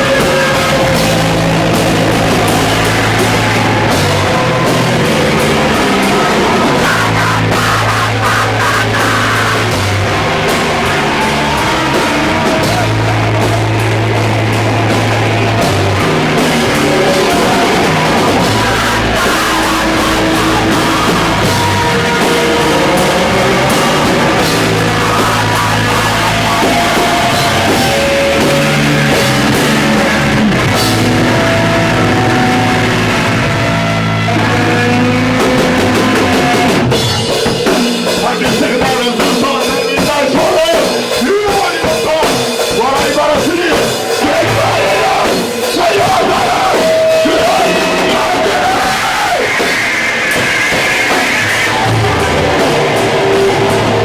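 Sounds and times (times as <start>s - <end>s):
distorted electric guitar and bass: 0.0s - 54.0s
fast dense drumming: 0.0s - 54.0s.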